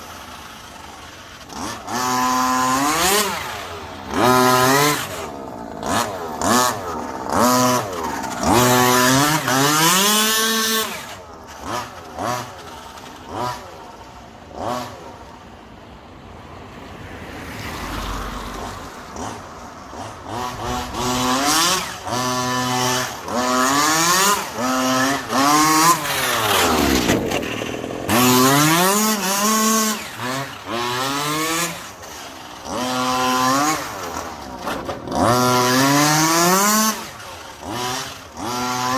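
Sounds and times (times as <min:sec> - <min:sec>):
rc car two-stroke engine revving: 0:00.0 - 0:15.5, 0:17.9 - 0:38.9
rc car passing by: 0:00.0 - 0:38.9.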